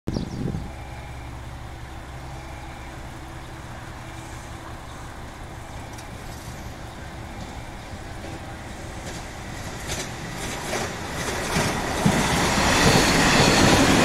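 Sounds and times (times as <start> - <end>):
standing train humming: 0.1 - 14.0.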